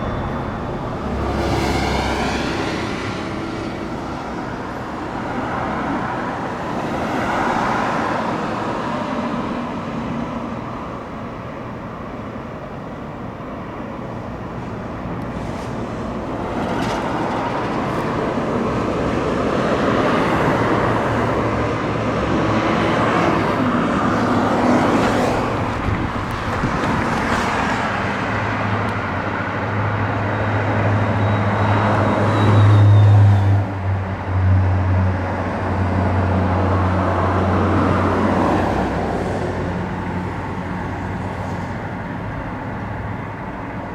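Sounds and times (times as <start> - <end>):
cars passing by: 0.0 - 43.9.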